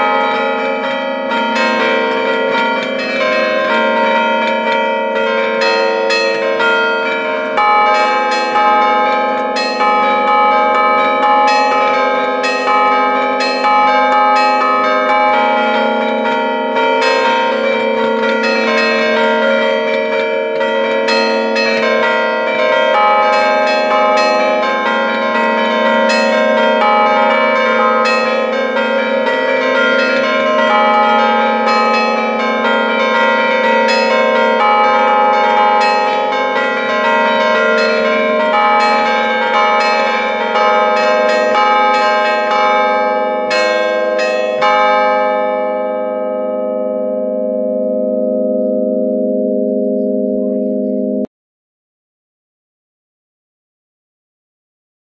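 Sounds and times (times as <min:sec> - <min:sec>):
church bells ringing melodies: 0:00.0 - 0:51.3.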